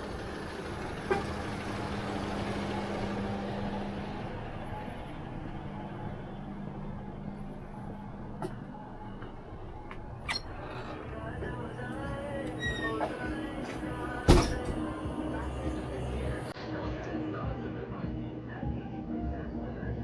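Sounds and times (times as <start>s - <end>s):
vehicle engine humming: 0.0s - 16.6s.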